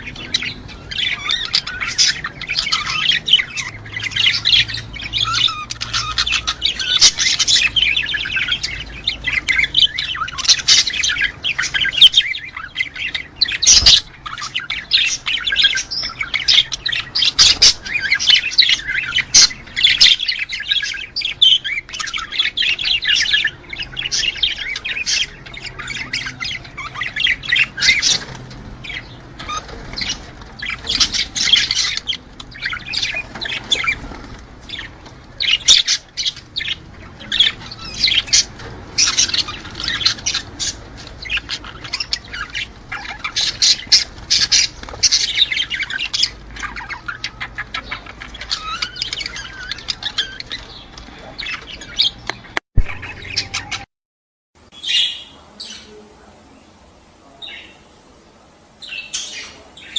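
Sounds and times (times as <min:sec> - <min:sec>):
budgerigars chattering: 0:00.0 - 0:53.9, 0:54.7 - 0:59.9.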